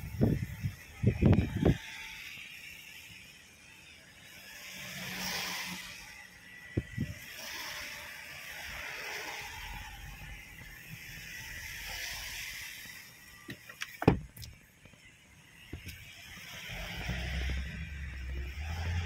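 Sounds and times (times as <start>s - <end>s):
rain and traffic hiss: 0.0s - 19.0s.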